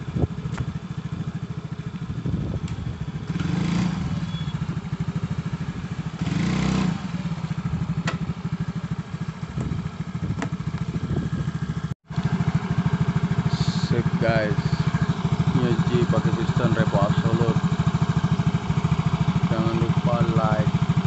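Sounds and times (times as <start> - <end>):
scooter engine idling: 0.0 - 21.0.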